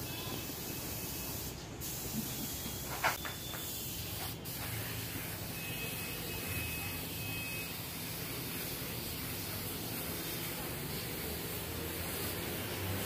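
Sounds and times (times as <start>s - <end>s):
spray gun hissing: 0.0s - 13.0s.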